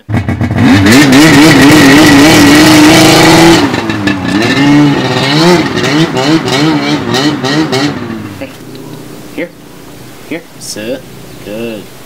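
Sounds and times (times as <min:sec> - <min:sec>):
snowmobile engine revving: 0:00.0 - 0:11.9.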